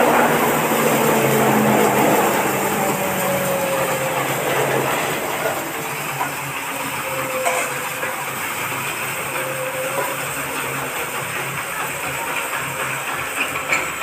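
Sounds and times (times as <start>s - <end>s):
diesel engine pulsing beat: 0.0s - 14.0s
hammer mill grinding maize: 0.0s - 14.0s.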